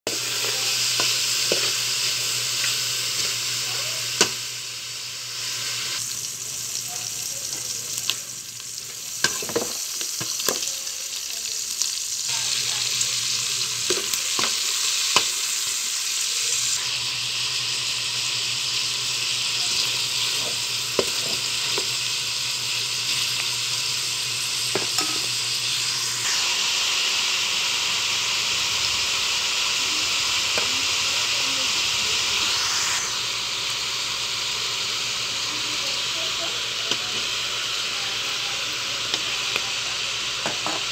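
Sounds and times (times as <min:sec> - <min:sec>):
food sizzling in oil: 0:00.1 - 0:40.9.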